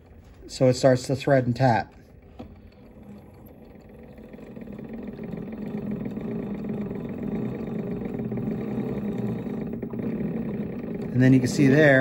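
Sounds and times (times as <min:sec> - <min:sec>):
lathe motor hum: 0:00.0 - 0:12.0.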